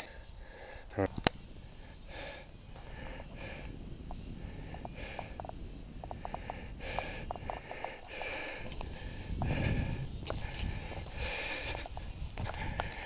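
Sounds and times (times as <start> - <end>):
person breathing hard: 0.0 - 1.0, 1.6 - 13.0
wind rumble on microphone: 0.0 - 13.0.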